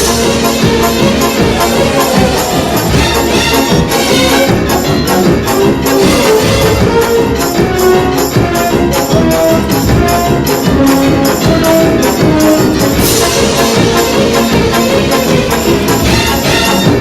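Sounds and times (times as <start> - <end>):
percussion beat with tambourine: 0.0 - 17.0
sustained melodic notes: 0.0 - 17.0.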